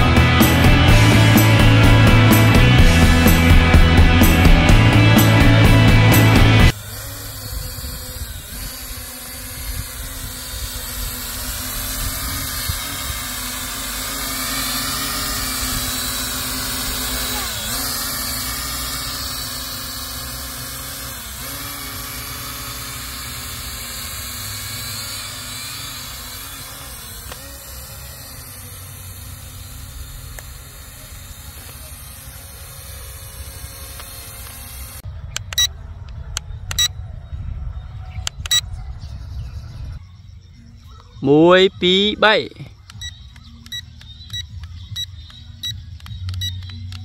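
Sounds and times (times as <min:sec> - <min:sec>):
drone propellers whining: 0:00.0 - 0:40.0, 0:41.3 - 0:47.0.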